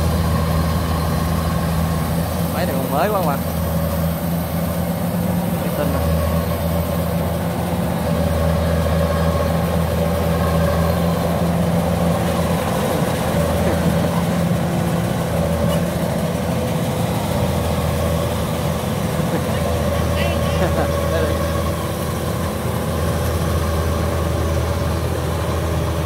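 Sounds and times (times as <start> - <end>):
combine harvester engine droning: 0.0 - 26.0.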